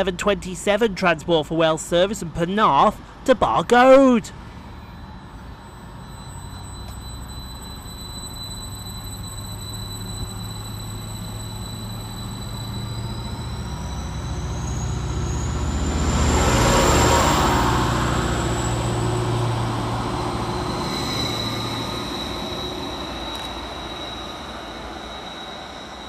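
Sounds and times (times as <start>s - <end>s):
electric traction whine: 4.0s - 26.0s
diesel engine low hum: 4.3s - 26.0s.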